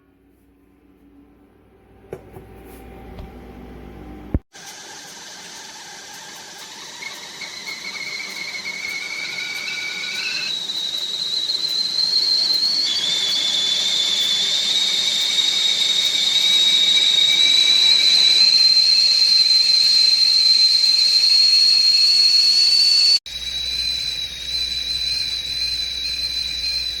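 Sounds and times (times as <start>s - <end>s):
kettle whistling: 4.4s - 27.0s.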